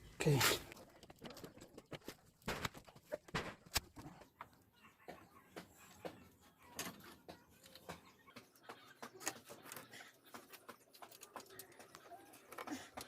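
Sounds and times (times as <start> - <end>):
faint irregular clicks and knocks: 0.7 - 13.0.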